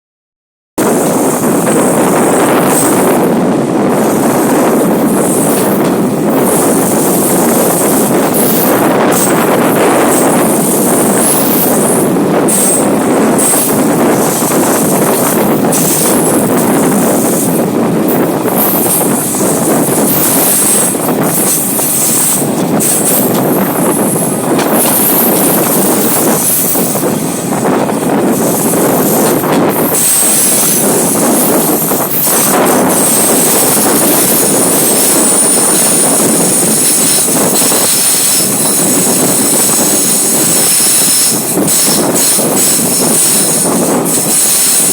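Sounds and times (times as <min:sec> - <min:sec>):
train rumbling on rails: 0:00.8 - 0:44.9
wheel squeal: 0:00.8 - 0:44.9.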